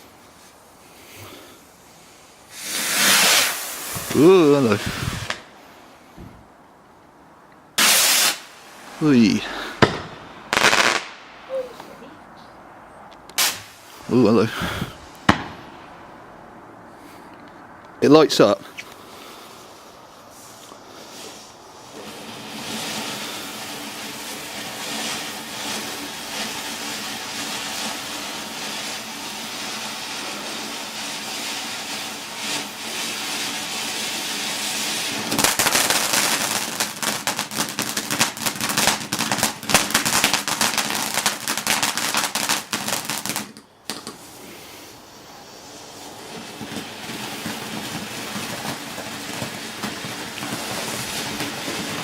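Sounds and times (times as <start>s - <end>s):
firework crackling: 0.0s - 6.6s, 7.6s - 52.0s
firework fountain hissing: 0.0s - 6.6s, 7.7s - 52.0s.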